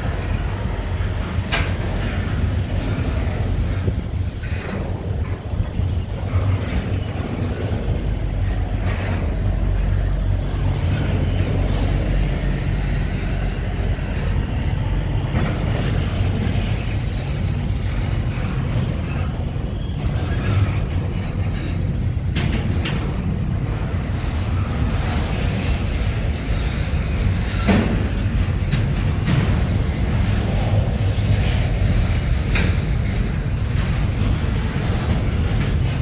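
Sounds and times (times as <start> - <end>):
freight cars clanking: 0.0 - 36.0
train wheels rumbling on rails: 0.0 - 36.0.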